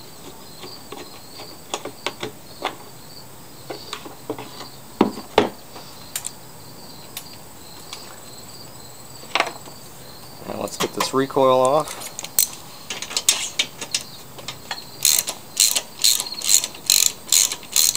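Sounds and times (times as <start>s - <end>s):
insects chirping: 0.0s - 17.9s.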